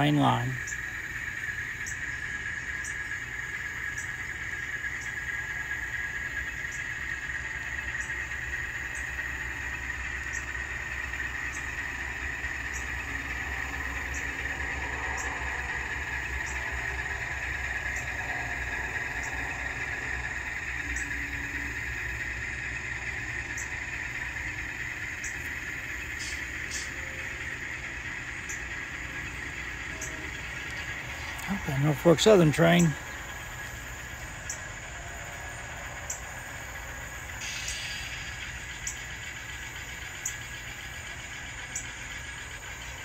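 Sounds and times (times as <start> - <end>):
diesel engine sound from small speaker: 0.0 - 43.0.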